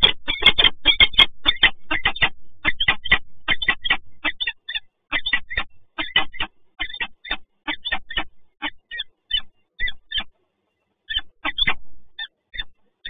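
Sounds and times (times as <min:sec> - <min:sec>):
falcon calling: 0:00.0 - 0:10.3, 0:11.1 - 0:12.7.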